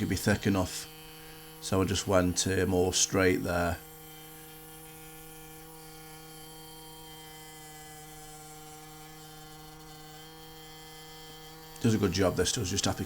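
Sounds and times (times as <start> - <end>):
scroll saw cutting wood: 0.0 - 13.0.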